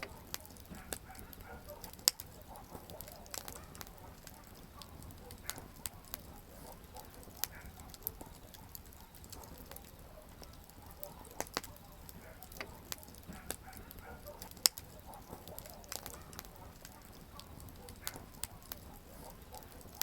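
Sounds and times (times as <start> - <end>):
campfire crackling and popping: 0.0 - 20.0
low fire rumble: 0.0 - 20.0.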